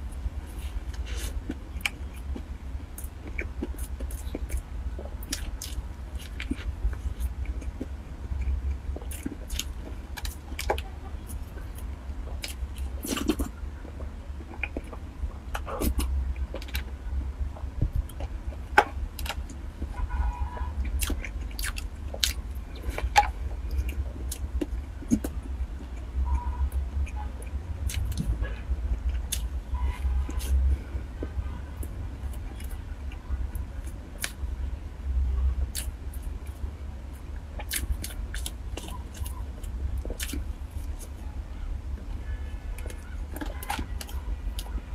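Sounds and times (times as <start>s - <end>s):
mouth chewing cake: 0.0s - 34.6s, 35.2s - 44.9s
steady low hum: 0.0s - 44.9s.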